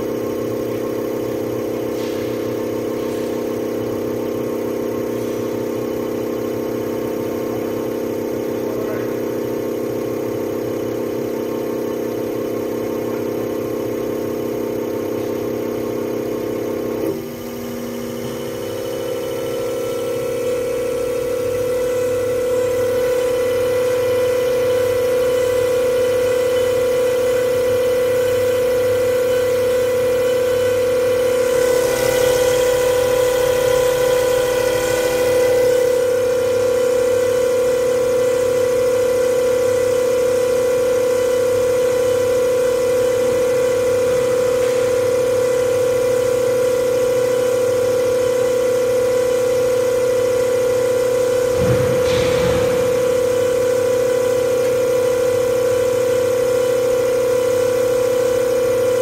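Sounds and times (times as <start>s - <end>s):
test bench whine: 0.0s - 59.0s.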